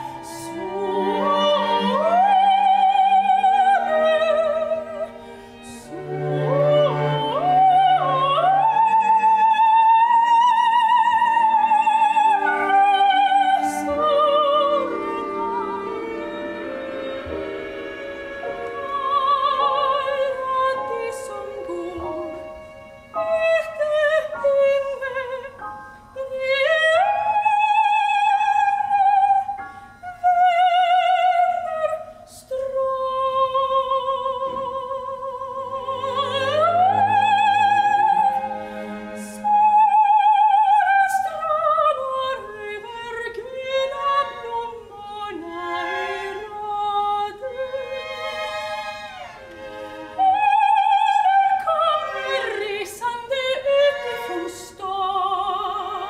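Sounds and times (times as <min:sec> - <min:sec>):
soprano singing opera: 0:00.0 - 0:48.8, 0:50.1 - 0:56.0.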